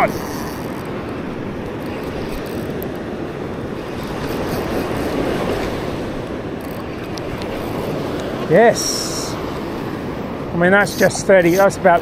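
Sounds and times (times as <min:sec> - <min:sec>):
surf on a beach: 0:00.0 - 0:12.0
wind on microphone: 0:00.0 - 0:12.0.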